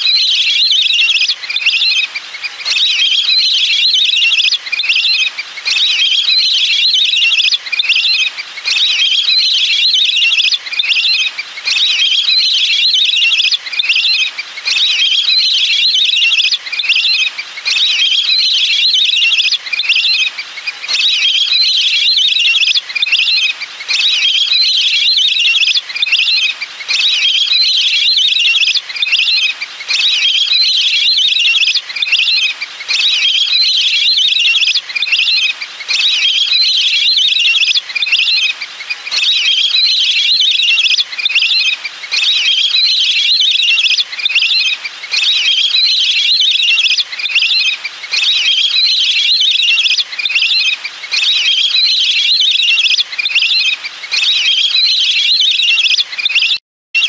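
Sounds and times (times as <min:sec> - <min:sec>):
ducks whistling calls: 0:00.0 - 0:56.6.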